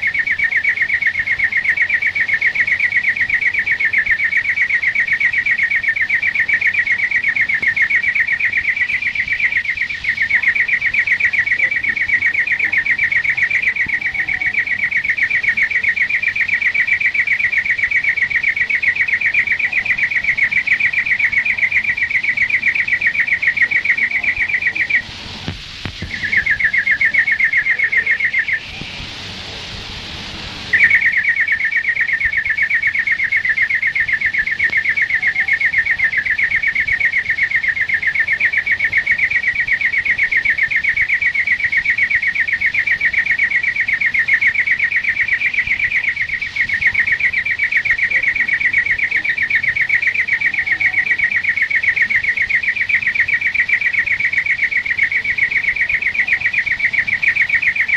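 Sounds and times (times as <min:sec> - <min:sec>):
bird singing rolling trill: 0:00.0 - 0:25.1, 0:26.0 - 0:28.8, 0:30.7 - 0:57.9.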